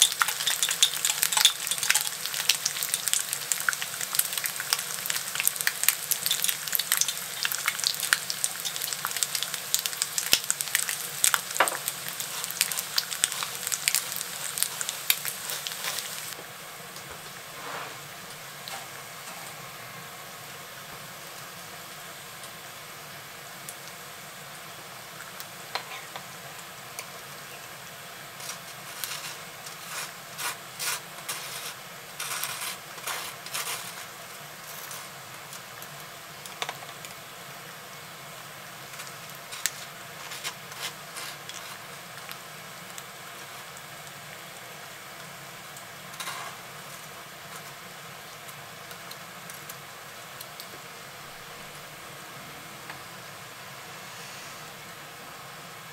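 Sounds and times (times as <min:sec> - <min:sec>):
bacon sizzling in a skillet: 0:00.0 - 0:16.4, 0:21.2 - 0:50.8.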